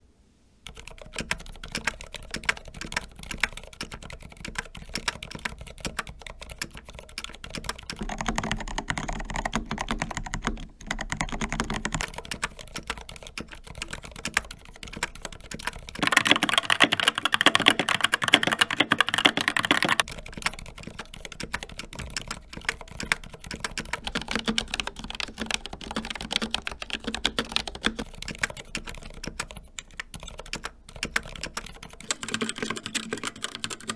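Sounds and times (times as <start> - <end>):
fast typing on mechanical keyboard: 0.7 - 33.9.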